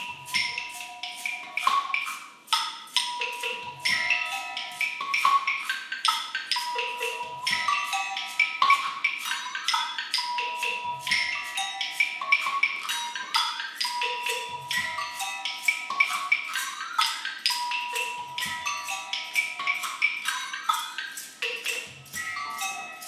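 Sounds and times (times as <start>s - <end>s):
hand percussion ensemble: 0.0s - 23.0s.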